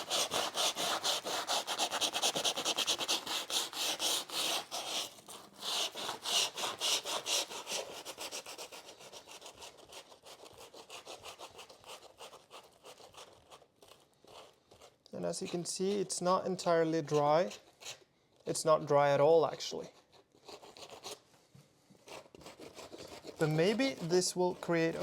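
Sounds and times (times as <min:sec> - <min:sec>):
sandpaper rubbing on painting: 0:00.0 - 0:18.0, 0:22.0 - 0:25.0.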